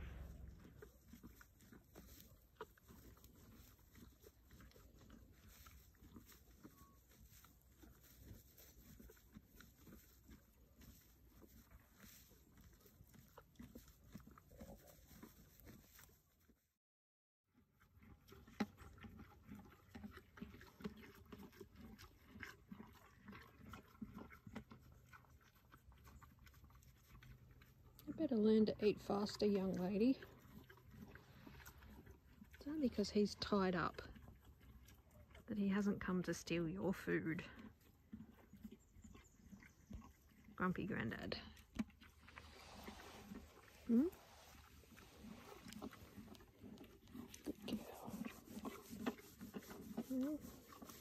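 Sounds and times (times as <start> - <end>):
foal chewing hay: 0.0 - 16.6, 17.6 - 51.0.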